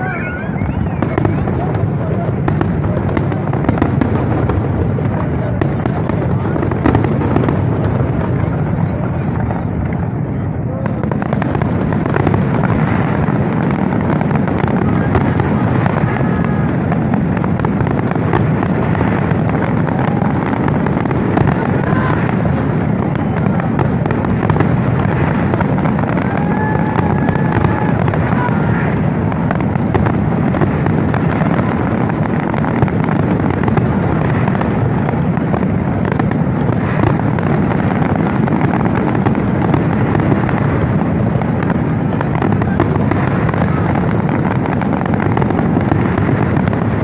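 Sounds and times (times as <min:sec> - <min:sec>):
fireworks bangs and crackles: 0:00.0 - 0:47.0
people's voices: 0:00.0 - 0:47.0.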